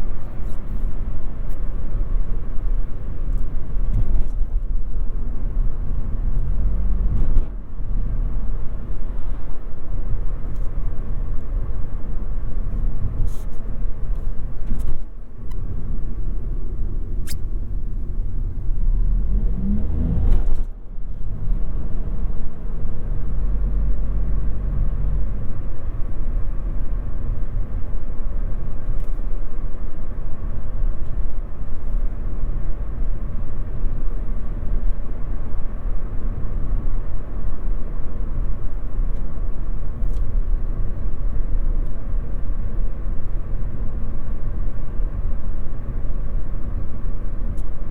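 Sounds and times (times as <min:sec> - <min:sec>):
road and tyre rumble: 0:00.0 - 0:47.9.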